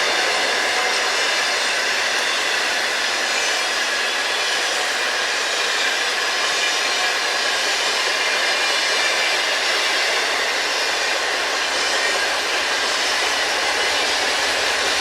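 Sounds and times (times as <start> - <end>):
freight train wheels rushing on rail: 0.0 - 15.0.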